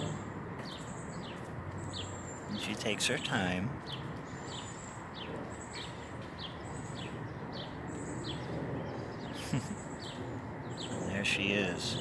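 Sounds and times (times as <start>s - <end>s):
bird chirping: 0.0s - 12.0s
outdoor background noise: 0.0s - 12.0s.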